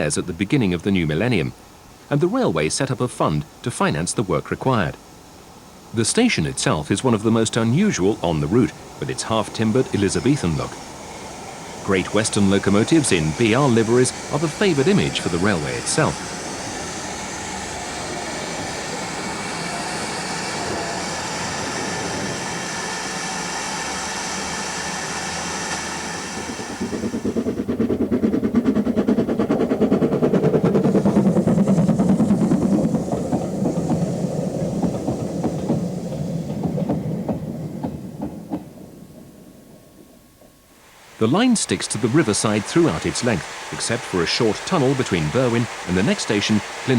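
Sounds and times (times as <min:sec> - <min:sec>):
steady hiss with held tones: 0:00.0 - 0:27.5, 0:30.8 - 0:46.9
train passing with rumble and clatter: 0:00.0 - 0:46.9.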